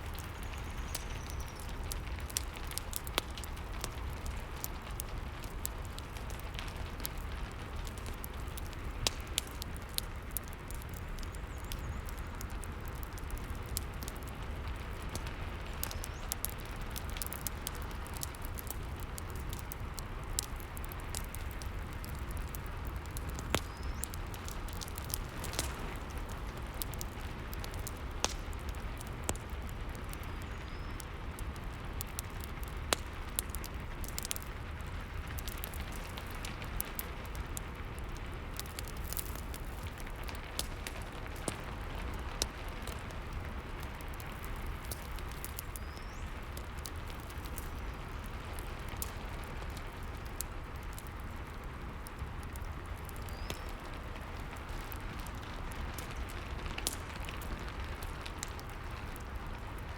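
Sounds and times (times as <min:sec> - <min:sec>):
burning wood crackling: 0:00.0 - 0:59.9
rain hiss: 0:00.0 - 0:59.9.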